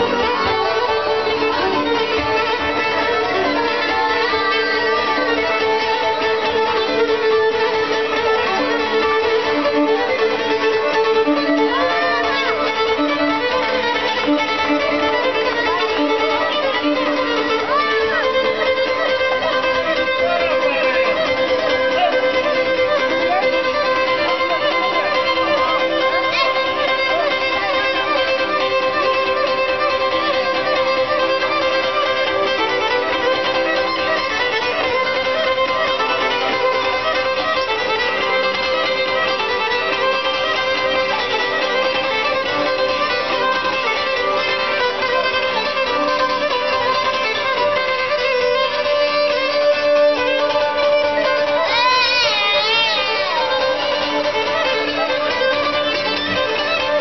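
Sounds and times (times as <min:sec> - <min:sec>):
plucked lute accompaniment: 0:00.0 - 0:57.0
violin melody: 0:00.0 - 0:57.0.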